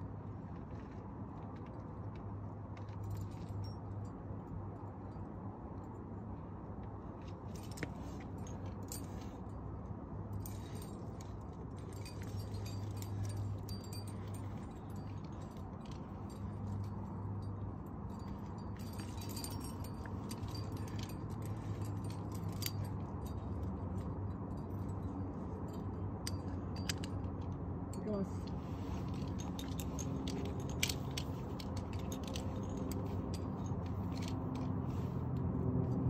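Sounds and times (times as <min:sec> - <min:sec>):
steady low rumble: 0:00.0 - 0:36.0
climbing hardware clinking: 0:00.4 - 0:36.0.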